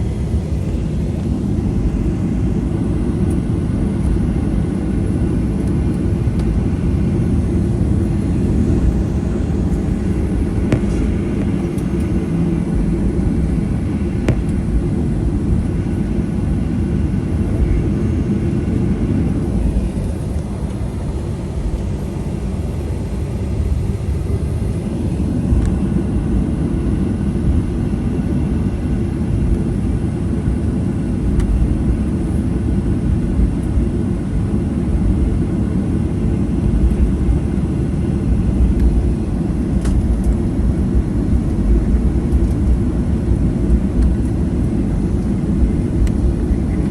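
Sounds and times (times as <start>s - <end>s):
aircraft cabin engine rumble: 0.0s - 46.9s.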